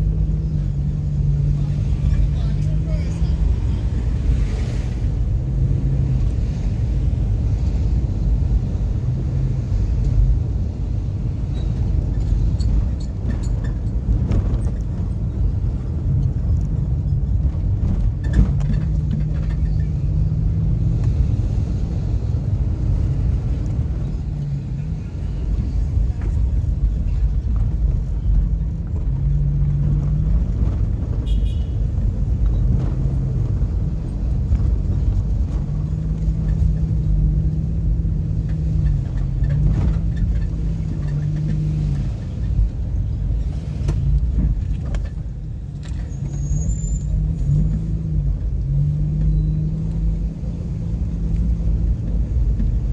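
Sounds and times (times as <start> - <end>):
car engine: 0.0 - 52.9
road rumble: 0.0 - 52.9.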